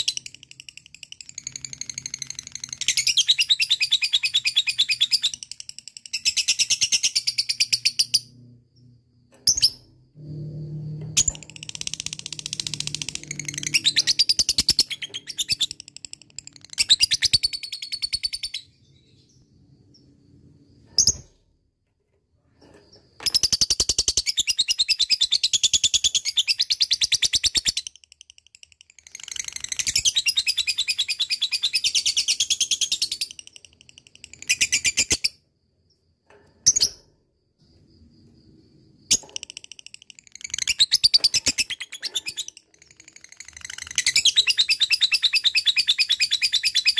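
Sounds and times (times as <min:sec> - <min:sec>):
bird chirps: 0:00.0 - 0:21.5, 0:22.6 - 0:46.9.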